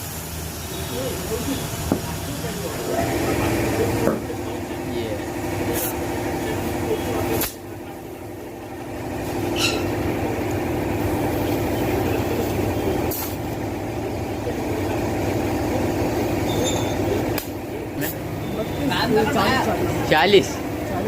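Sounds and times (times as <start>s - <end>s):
air compressor humming: 0.0s - 21.0s.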